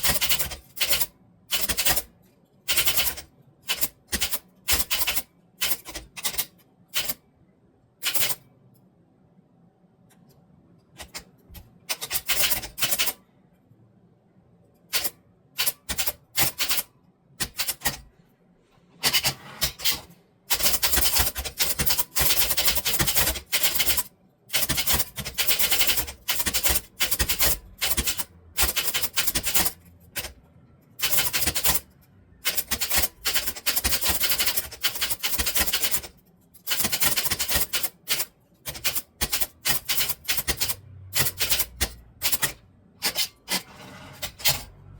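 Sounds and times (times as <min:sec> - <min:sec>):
typewriter keystrokes: 0:00.0 - 0:02.1, 0:02.7 - 0:07.2, 0:08.0 - 0:08.4, 0:11.0 - 0:13.2, 0:14.9 - 0:18.0, 0:19.0 - 0:30.4, 0:31.0 - 0:43.6.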